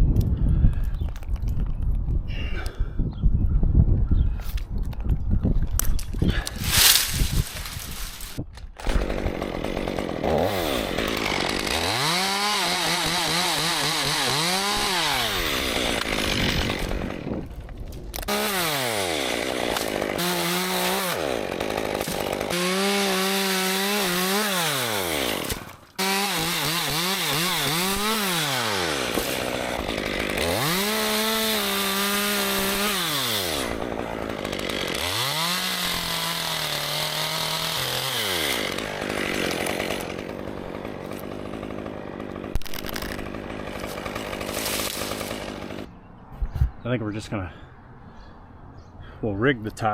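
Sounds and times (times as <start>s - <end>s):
chainsaw cutting wood: 6.0s - 46.0s.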